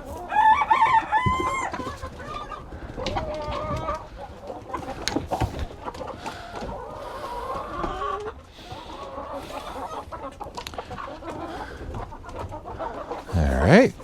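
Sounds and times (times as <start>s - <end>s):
hens clucking: 0.0s - 14.0s.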